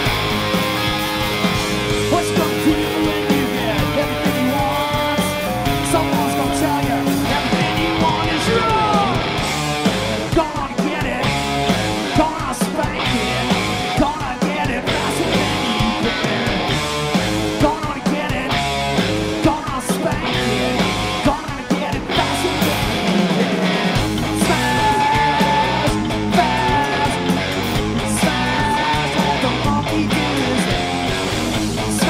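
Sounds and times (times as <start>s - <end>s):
bass guitar: 0.0s - 32.0s
drum kit: 0.0s - 32.0s
electric guitars: 0.0s - 32.0s.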